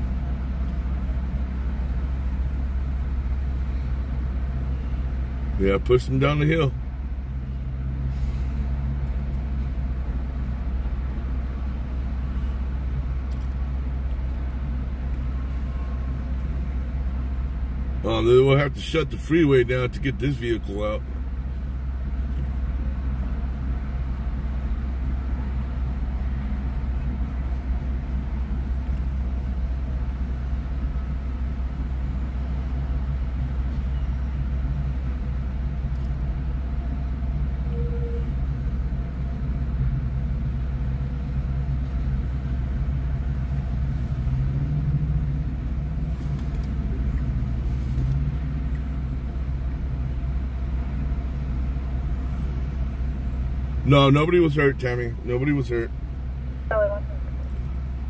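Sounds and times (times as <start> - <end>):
engine humming: 0.0 - 58.0
road traffic rumble: 0.0 - 58.0.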